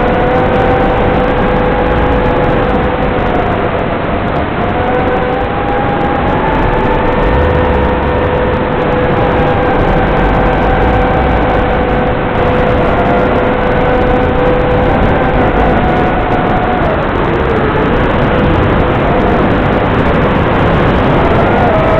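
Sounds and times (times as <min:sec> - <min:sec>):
thin whining tones: 0:00.0 - 0:19.2
loud static hiss: 0:00.0 - 0:21.9.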